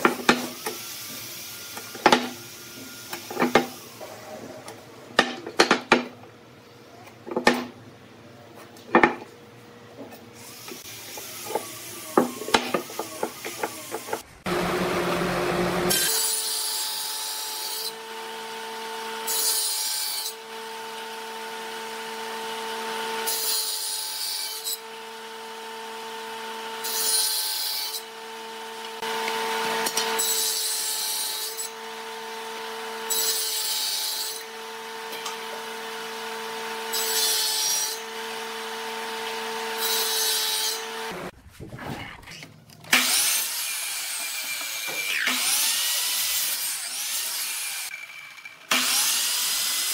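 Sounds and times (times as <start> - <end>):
table saw whine: 0.0 - 4.9, 10.4 - 41.3, 42.9 - 49.9
saw cutting hardwood: 0.0 - 5.6, 10.4 - 41.4, 42.9 - 49.9.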